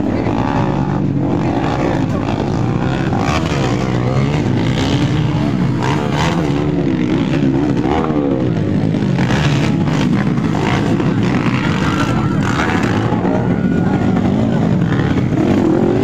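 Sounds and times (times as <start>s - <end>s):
motorcycle engines revving: 0.0s - 16.0s
spectators' voices: 0.0s - 16.0s.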